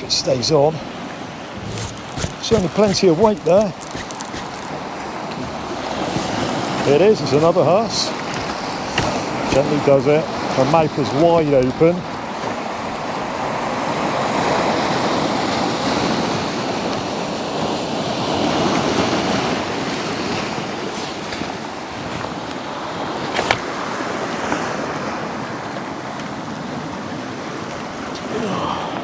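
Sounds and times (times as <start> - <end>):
waves breaking on rocks: 0.0 - 29.0.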